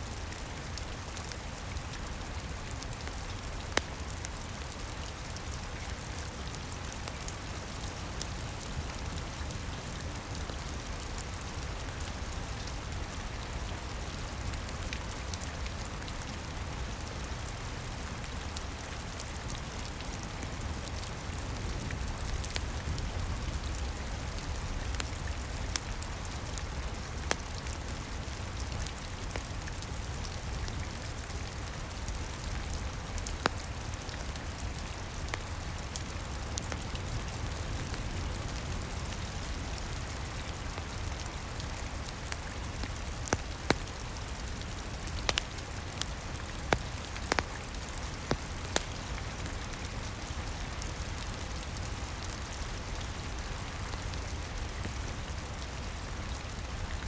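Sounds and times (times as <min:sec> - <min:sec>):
fireplace fire crackling: 0:00.0 - 0:57.0
steady rain: 0:00.0 - 0:57.0.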